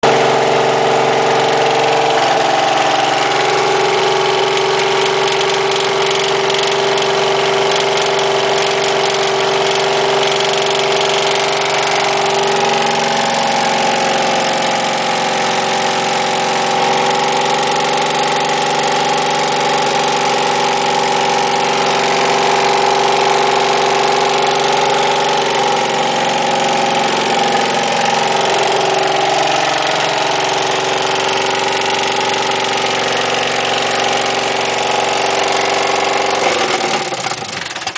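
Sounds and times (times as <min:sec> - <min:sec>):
engine running steadily: 0:00.0 - 0:37.9.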